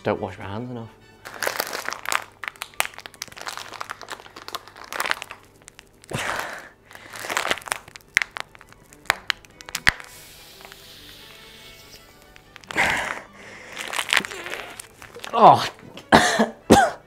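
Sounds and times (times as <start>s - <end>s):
paper towel crinkling: 1.3s - 16.0s.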